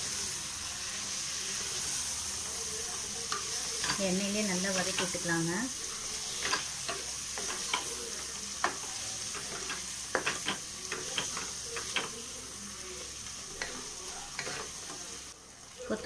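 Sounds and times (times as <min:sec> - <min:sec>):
leaves sizzling in hot oil: 0:00.0 - 0:16.0.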